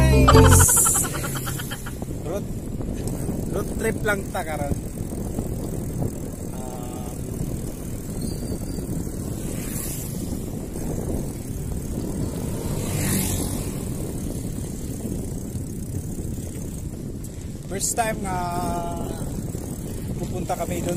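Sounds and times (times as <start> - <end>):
road rumble: 0.0 - 20.9
wind noise: 0.0 - 20.9.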